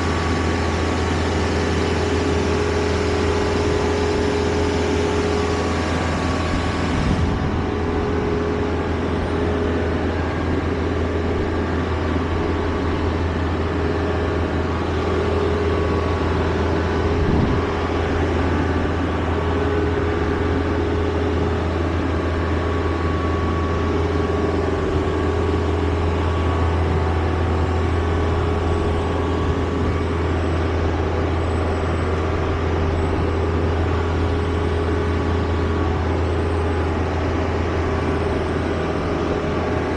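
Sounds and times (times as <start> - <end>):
road noise: 0.0 - 39.9
vehicle engine droning: 0.0 - 39.9.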